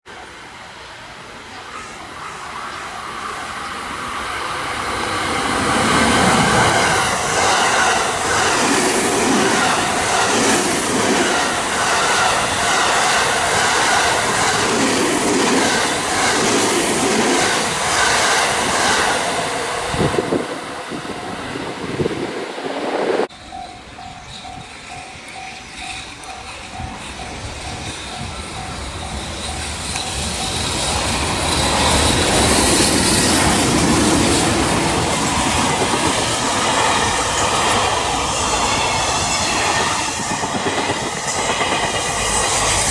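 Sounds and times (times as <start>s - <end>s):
train passing: 0.1s - 42.9s.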